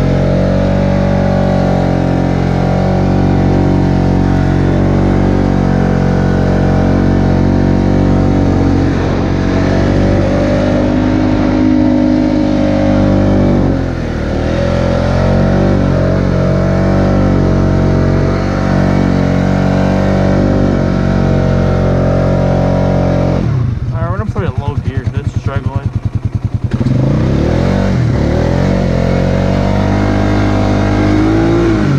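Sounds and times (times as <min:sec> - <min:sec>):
atv engine running: 0:00.0 - 0:31.9.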